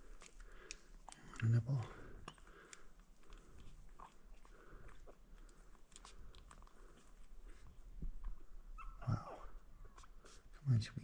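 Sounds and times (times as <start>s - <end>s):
puppy sucking at bottle nipple: 0.0s - 8.9s.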